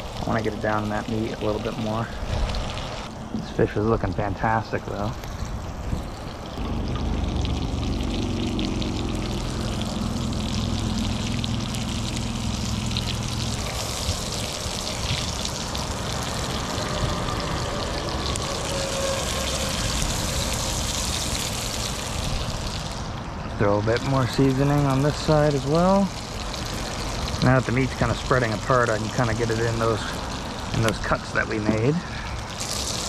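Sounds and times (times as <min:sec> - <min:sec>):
fish sizzling in hot oil: 0:00.0 - 0:03.2, 0:05.1 - 0:33.0
low hum: 0:00.0 - 0:33.0.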